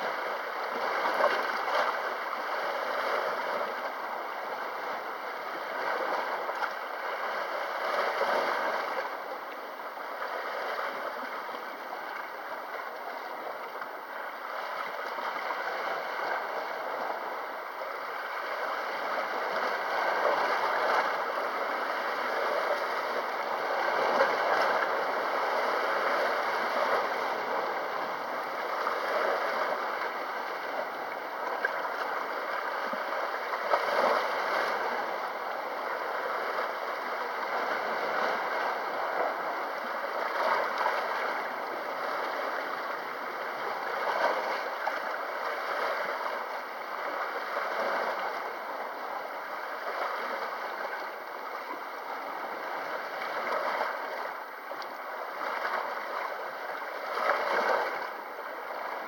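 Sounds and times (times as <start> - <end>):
sea water washing at the shore: 0.0 - 59.0.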